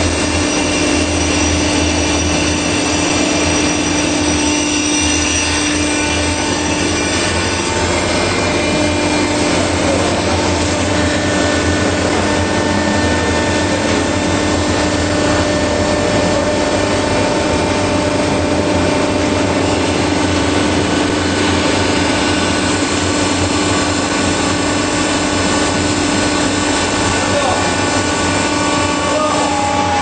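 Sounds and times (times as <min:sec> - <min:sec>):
baler machine drone: 0:00.0 - 0:30.0.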